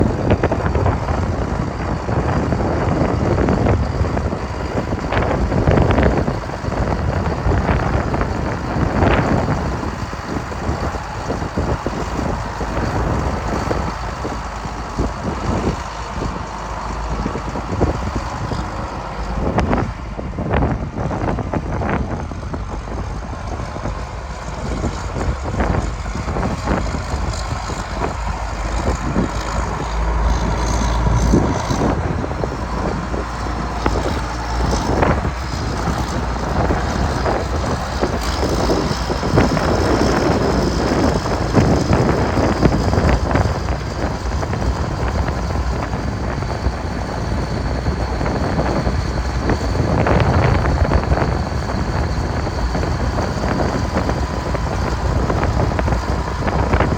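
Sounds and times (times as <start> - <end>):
tractor diesel engine running: 0.0 - 56.9
wind buffeting microphone: 0.0 - 56.9.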